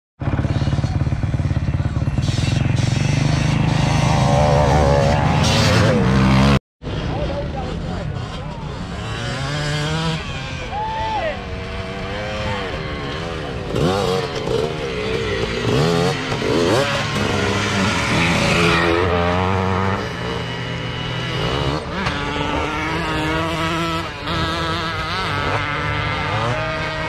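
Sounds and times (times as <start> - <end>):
dirt bike engines revving: 0.2 - 27.0.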